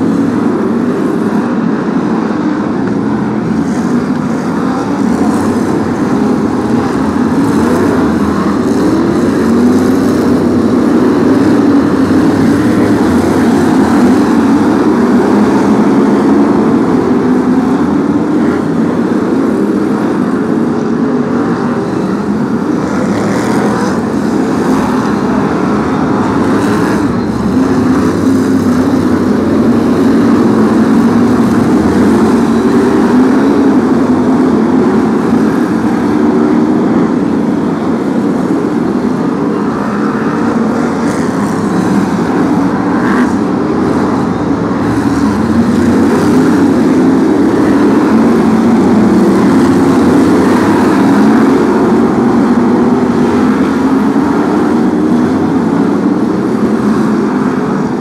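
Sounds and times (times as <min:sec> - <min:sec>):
stock car engines racing: 0:00.0 - 0:58.0.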